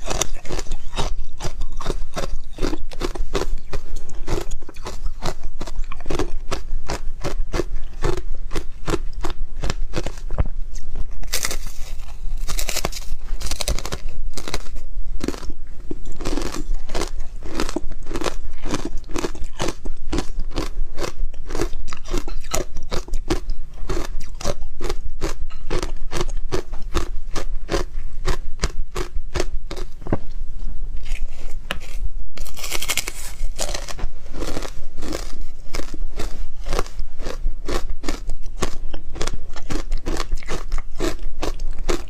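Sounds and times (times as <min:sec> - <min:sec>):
ice crunching while chewed: 0:00.0 - 0:30.0, 0:31.0 - 0:42.0.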